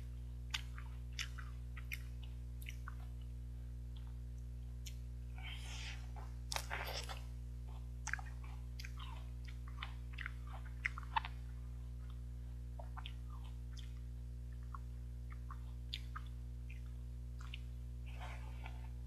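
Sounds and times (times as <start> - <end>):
low electrical hum: 0.0 - 19.0
biting and chewing crisp melon: 0.4 - 19.0.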